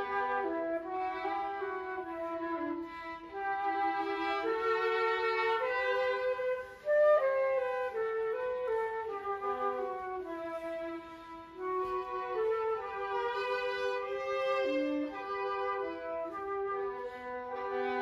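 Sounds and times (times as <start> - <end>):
flute melody: 0.0 - 18.0
violin playing held notes: 0.0 - 18.0.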